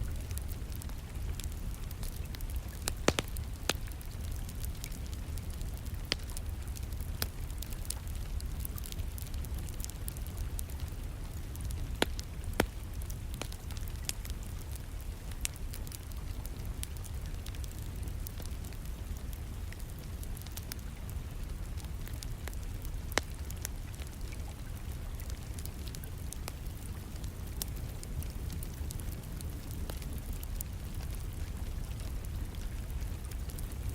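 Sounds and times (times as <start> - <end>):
low rumble of rain: 0.0 - 33.9
wood fire crackling and popping: 0.0 - 33.9.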